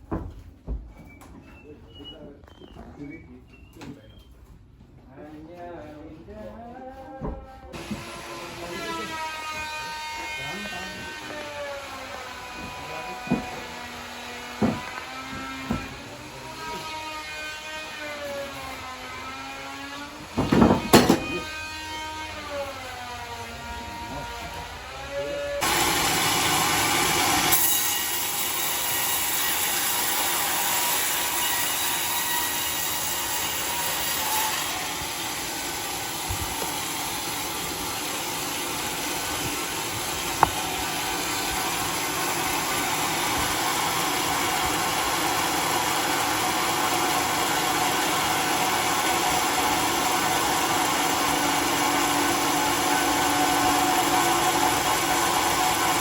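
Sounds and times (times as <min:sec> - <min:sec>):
sawmill saw cutting log: 0:05.3 - 0:56.0.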